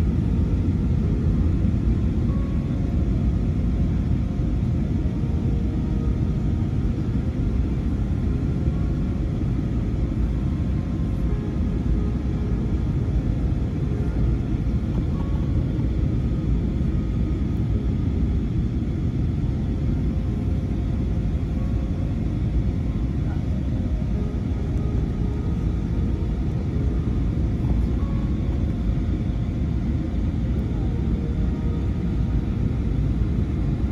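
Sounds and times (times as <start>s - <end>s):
airliner cabin engine rumble: 0.0s - 33.9s
faint steady tones: 0.0s - 33.9s.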